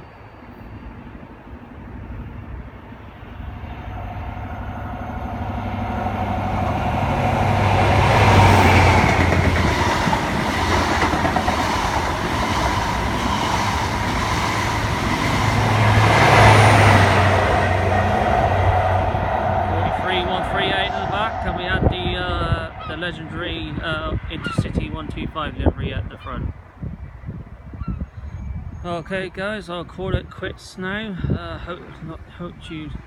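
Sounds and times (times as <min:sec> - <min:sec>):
diesel train passing at speed: 0:00.0 - 0:28.8.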